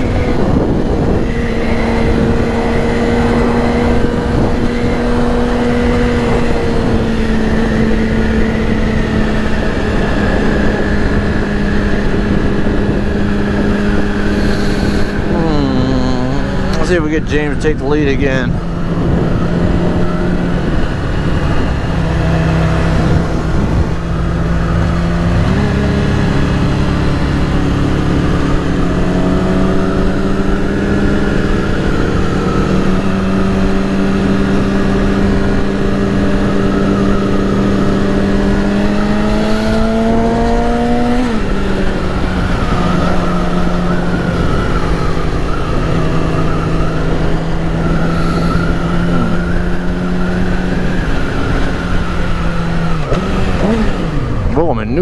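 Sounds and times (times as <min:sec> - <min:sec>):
motorcycle engine running: 0:00.0 - 0:54.9
wind rushing over microphone: 0:00.0 - 0:55.0.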